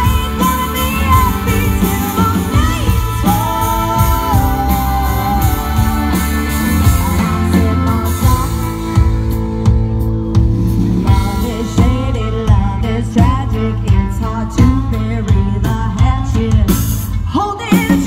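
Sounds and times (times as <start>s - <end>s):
singer holding and bending notes: 0.0s - 16.2s
bass guitar: 0.0s - 18.0s
drum kit: 0.0s - 18.0s
electric guitar: 0.0s - 18.0s.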